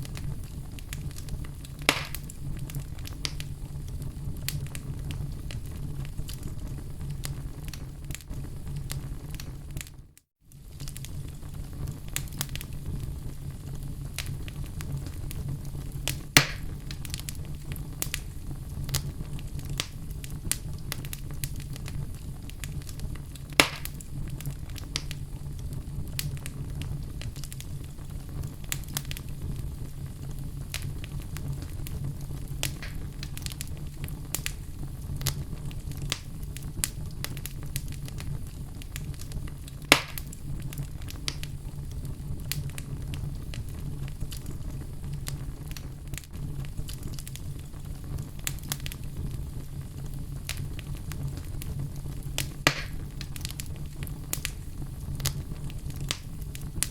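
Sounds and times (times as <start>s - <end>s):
fire crackling: 0.0s - 56.9s
fire low rumble: 0.0s - 56.9s.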